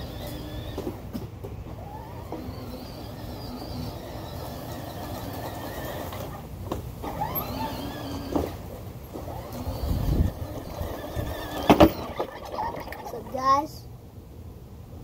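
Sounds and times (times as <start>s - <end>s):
electric toy motors whining: 0.0s - 1.1s, 1.7s - 13.4s
plastic wheels rumbling on grass: 0.0s - 13.8s.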